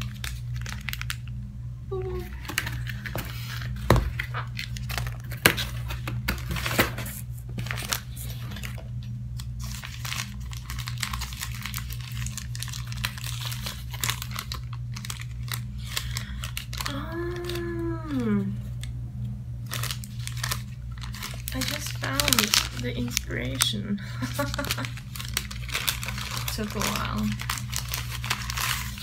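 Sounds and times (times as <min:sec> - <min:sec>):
paper packet crinkling and tearing: 0:00.0 - 0:01.3, 0:02.0 - 0:18.9, 0:19.6 - 0:29.0
steady low hum: 0:00.0 - 0:29.0.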